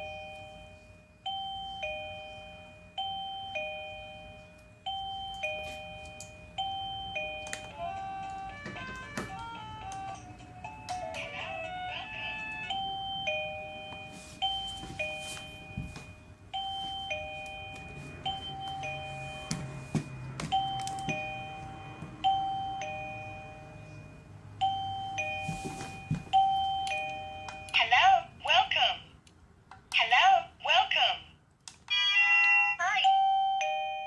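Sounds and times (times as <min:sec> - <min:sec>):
electronic doorbell chime: 0:00.0 - 0:28.4, 0:33.0 - 0:34.0.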